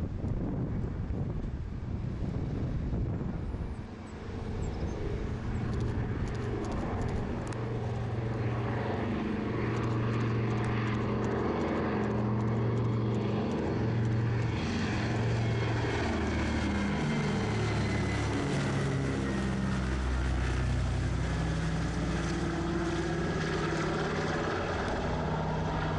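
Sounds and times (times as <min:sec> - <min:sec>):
propeller aircraft engines droning: 0:00.0 - 0:25.9.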